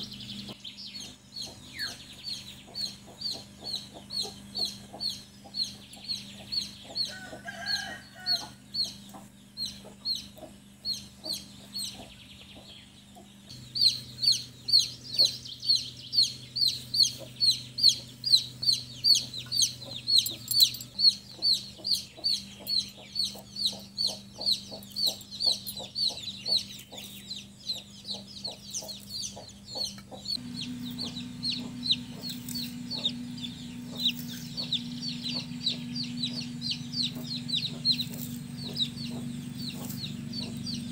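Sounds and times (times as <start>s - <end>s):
chick peeping: 0.0s - 40.9s.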